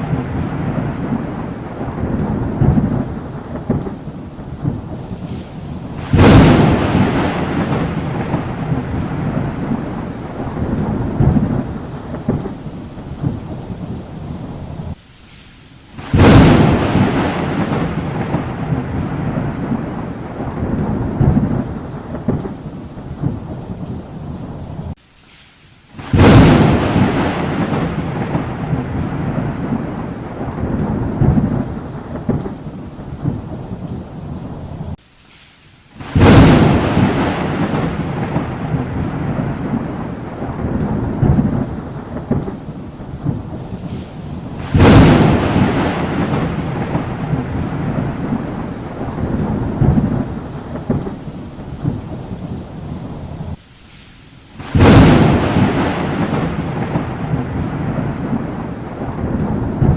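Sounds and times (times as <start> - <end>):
thunderclaps with rolling rumble: 0.0 - 15.0, 16.0 - 25.0, 26.0 - 35.0, 36.0 - 53.6, 54.6 - 59.9
steady rain: 0.0 - 59.9.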